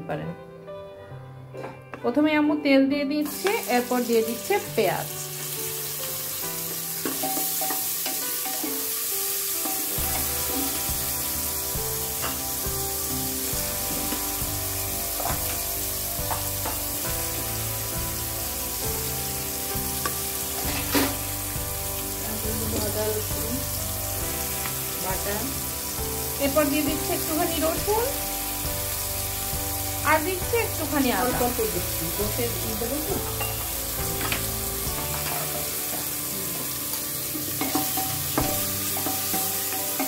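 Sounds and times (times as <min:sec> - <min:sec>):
onions sizzling in oil: 0:03.2 - 0:40.0.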